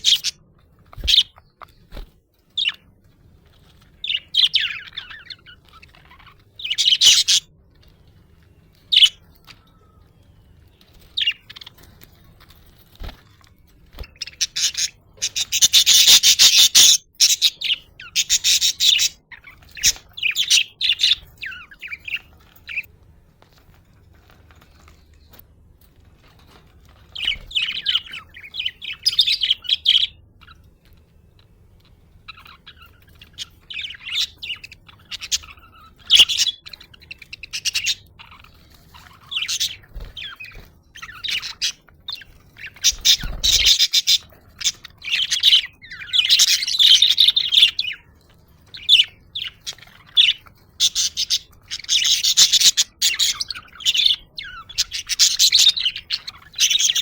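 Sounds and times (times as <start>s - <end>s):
budgerigars chirping: 0.0s - 2.9s, 3.5s - 8.1s, 8.8s - 22.9s, 26.3s - 57.0s.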